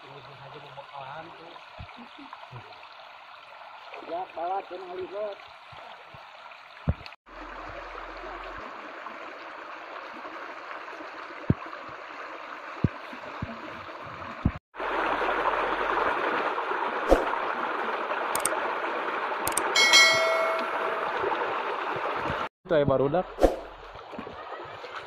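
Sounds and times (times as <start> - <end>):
stream running over rocks: 0.0 - 22.5, 23.1 - 25.0.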